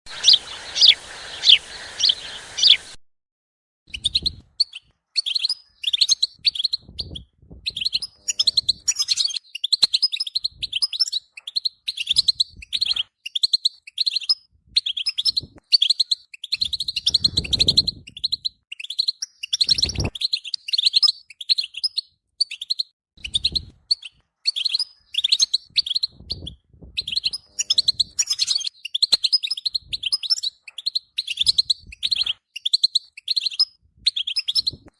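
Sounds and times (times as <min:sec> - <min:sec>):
goldfinch singing: 0:00.1 - 0:03.0, 0:03.9 - 0:34.9.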